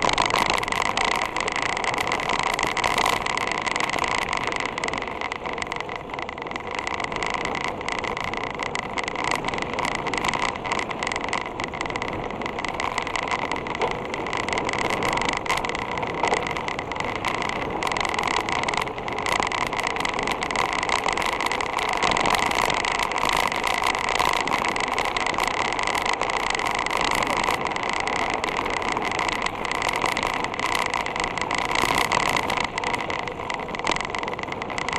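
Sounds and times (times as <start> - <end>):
gravel clicks and frame rattles: 0.0 - 34.9
steady whine: 0.0 - 34.9
tyre and wind noise: 0.0 - 34.9.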